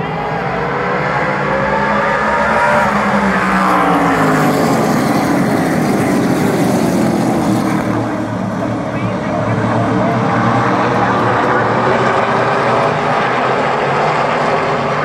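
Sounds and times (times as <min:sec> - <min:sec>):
race cars passing at full throttle: 0:00.0 - 0:15.0.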